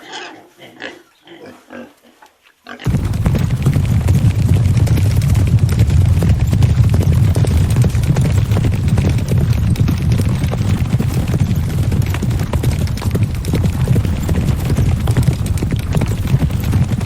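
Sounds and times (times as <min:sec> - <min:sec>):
horse hooves clip-clopping: 0:02.8 - 0:17.0
low rumble: 0:02.9 - 0:17.0.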